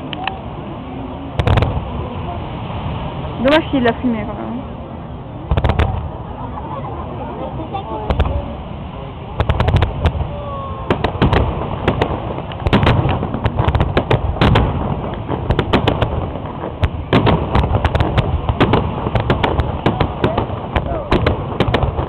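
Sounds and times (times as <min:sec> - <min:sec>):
fireworks bangs and crackling: 0:01.3 - 0:04.7, 0:05.4 - 0:22.0.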